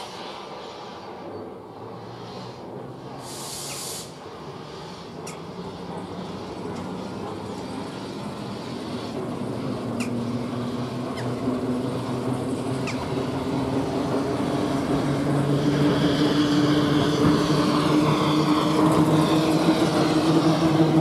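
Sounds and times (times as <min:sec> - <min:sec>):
model train wheels rolling on rails: 0:00.0 - 0:21.0.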